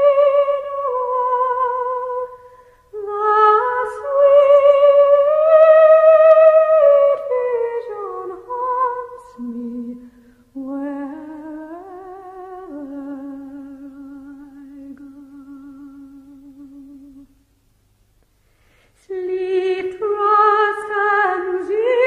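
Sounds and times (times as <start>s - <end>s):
wordless singing with vibrato: 0.0s - 17.5s, 18.8s - 22.0s.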